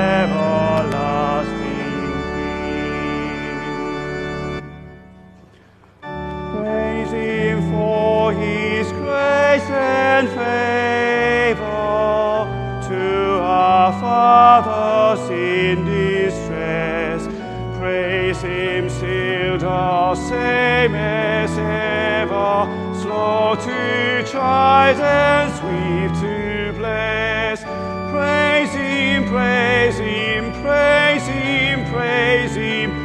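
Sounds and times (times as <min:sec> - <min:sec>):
congregation singing a hymn: 0:00.0 - 0:04.7, 0:06.4 - 0:33.0
pipe organ: 0:00.0 - 0:33.0.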